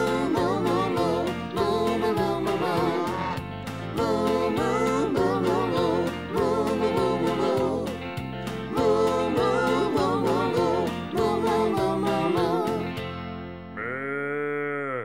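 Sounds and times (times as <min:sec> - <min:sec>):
voices singing children's song: 0:00.0 - 0:13.2.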